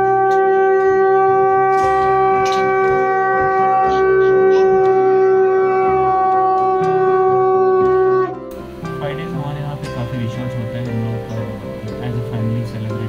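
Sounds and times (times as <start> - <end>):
conch shell blown: 0.0 - 13.0.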